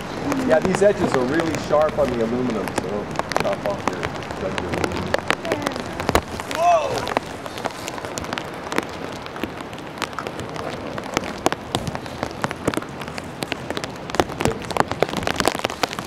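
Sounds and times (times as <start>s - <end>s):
rain hissing: 0.0s - 16.0s
raindrop hits: 0.0s - 16.0s.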